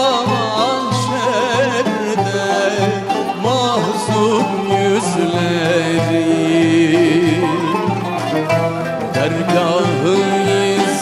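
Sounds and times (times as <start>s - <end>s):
ornamented melodic line: 0.0s - 11.0s
steady low drum beat: 0.0s - 11.0s.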